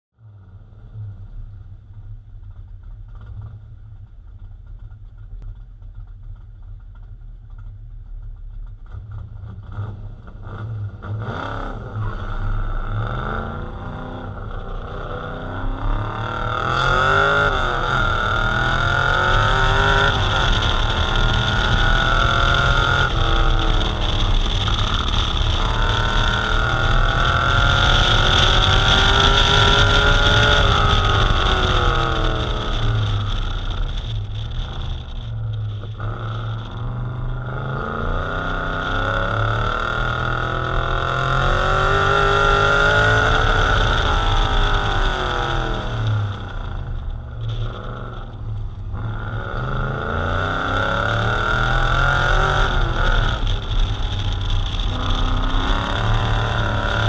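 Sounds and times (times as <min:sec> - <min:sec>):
car engine revving: 0:08.8 - 0:57.0.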